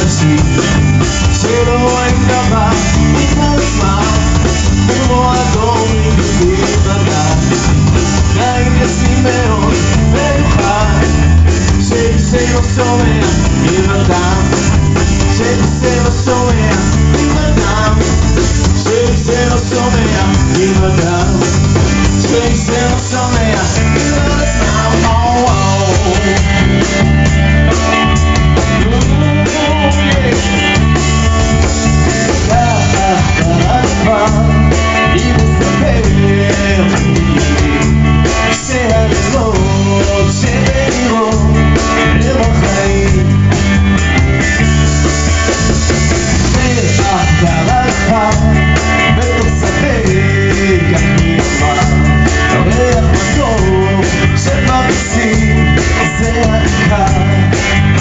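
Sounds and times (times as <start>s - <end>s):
bass: 0.0s - 58.0s
drum kit: 0.0s - 58.0s
electric guitars: 0.0s - 58.0s.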